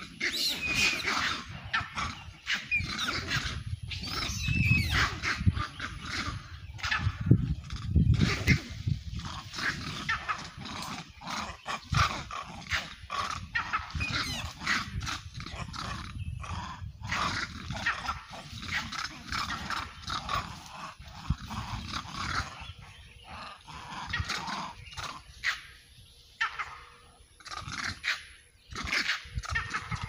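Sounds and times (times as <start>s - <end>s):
monkeys chattering and squealing: 0.0s - 30.0s.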